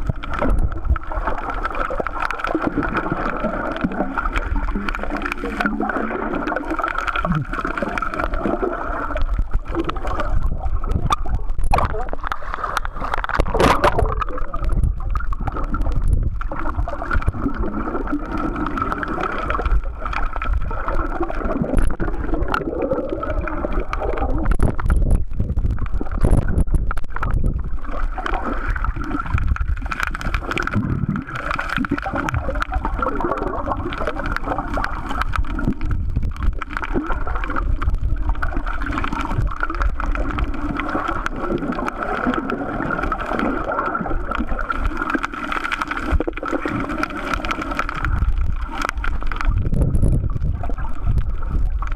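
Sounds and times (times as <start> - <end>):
underwater rumble and gurgling: 0.0 - 51.9.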